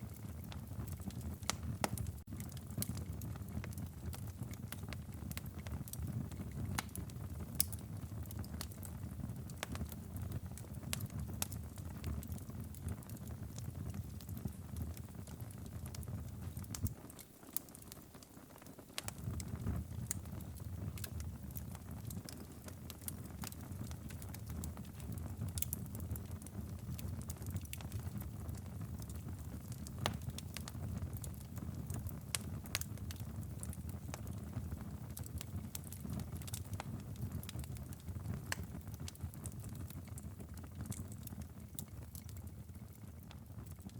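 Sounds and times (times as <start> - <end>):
fire popping: 0.0 - 43.9
low rumble of flames: 0.0 - 43.9.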